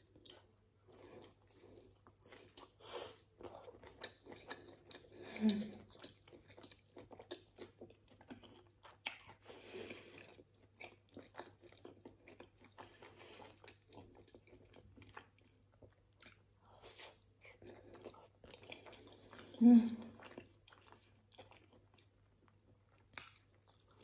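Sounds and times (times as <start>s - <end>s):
close chewing with mouth clicks: 0.0s - 24.0s.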